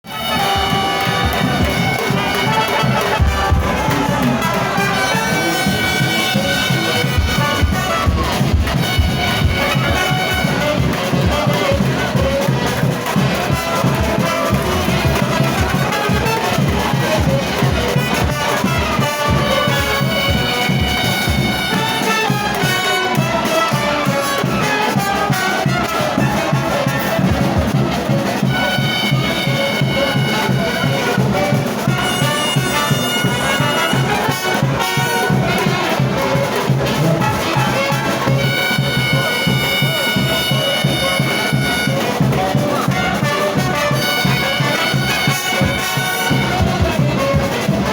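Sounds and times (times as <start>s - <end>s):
brass melody: 0.0s - 47.9s
quick steady drumbeat: 0.1s - 47.9s.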